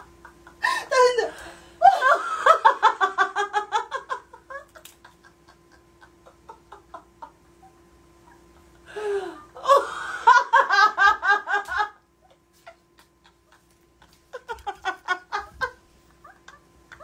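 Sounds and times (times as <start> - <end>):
women laughing: 0.0 - 17.0.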